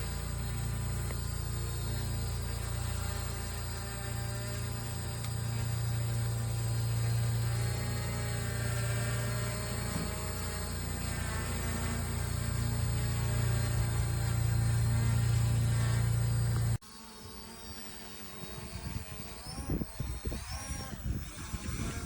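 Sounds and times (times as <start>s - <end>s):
drone motors and propellers humming: 0.0s - 22.0s.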